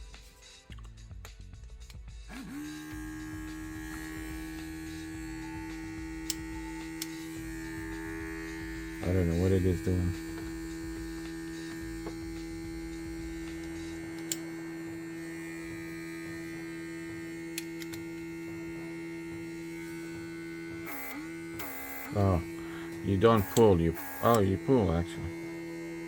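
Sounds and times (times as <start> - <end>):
small air compressor humming: 1.9 - 26.0.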